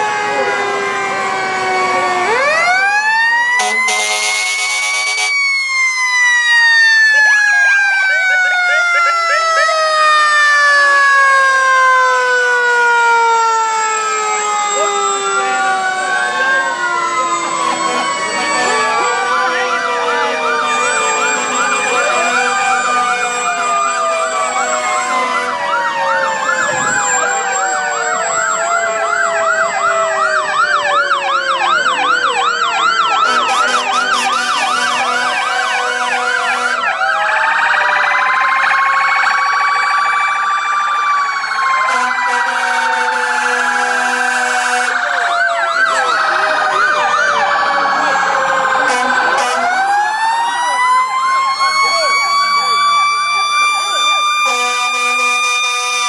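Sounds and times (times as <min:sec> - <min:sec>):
fast warbling siren yelp: 0:00.0 - 0:56.0
fire engine sirens wailing: 0:00.0 - 0:56.0.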